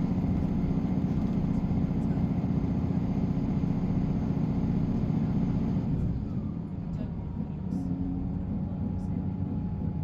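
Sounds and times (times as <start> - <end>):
train engine drone and rumble: 0.0 - 10.0.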